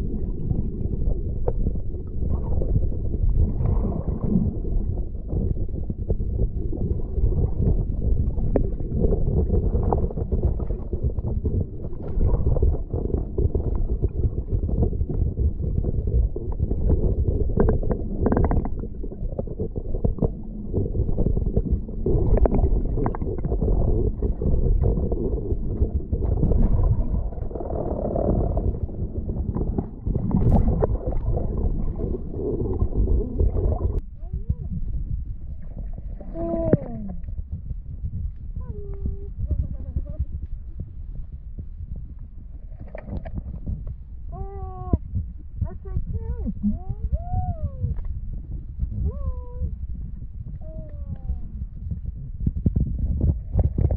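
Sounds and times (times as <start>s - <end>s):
muffled underwater rumbling: 0.0s - 53.9s.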